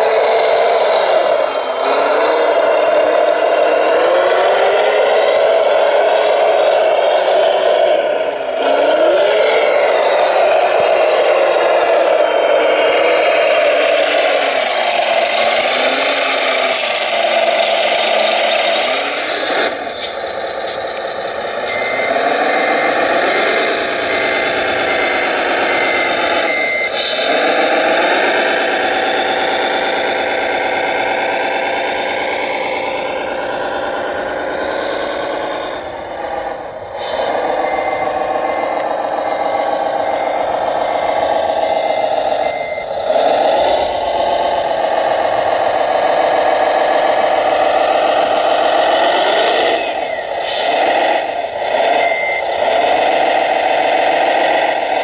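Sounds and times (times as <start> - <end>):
reversing beeper: 0.0 - 55.0
simulated diesel engine revving: 0.0 - 55.0.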